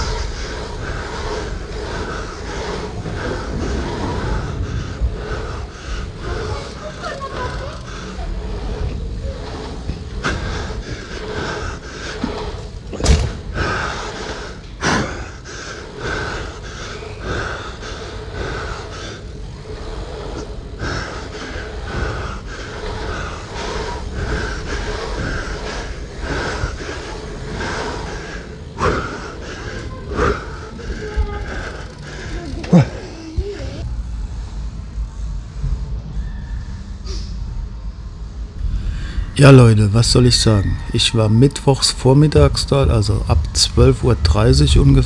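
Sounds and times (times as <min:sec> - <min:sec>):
heavy breathing: 0:00.0 - 0:33.9, 0:38.6 - 0:45.0
steady rolling rumble: 0:00.0 - 0:45.0.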